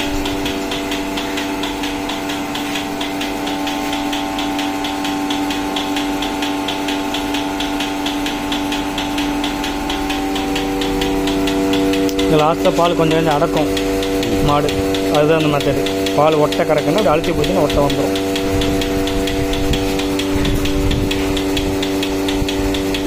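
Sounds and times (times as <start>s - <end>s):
pulsator fast ticking: 0.0s - 23.0s
vacuum pump humming: 0.0s - 23.0s.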